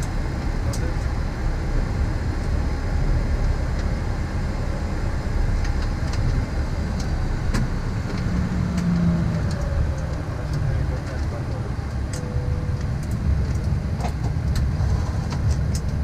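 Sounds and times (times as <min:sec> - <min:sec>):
jet engines idling rumble: 0:00.0 - 0:16.0.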